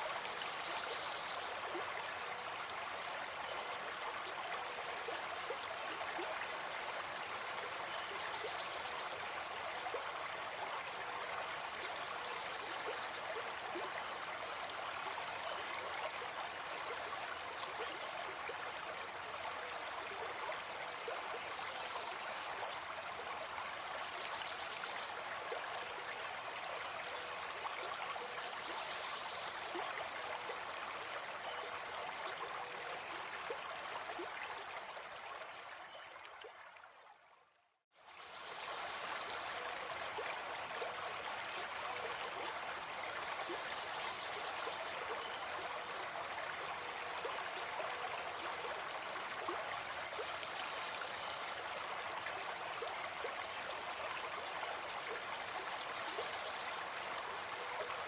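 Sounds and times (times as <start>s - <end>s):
stream flowing and babbling: 0.0s - 58.0s.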